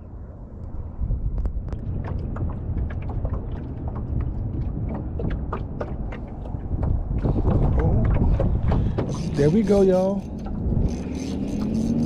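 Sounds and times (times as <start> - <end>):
wind rumbling on microphone: 0.0 - 12.0
sharp clicks and knocks: 1.4 - 12.0.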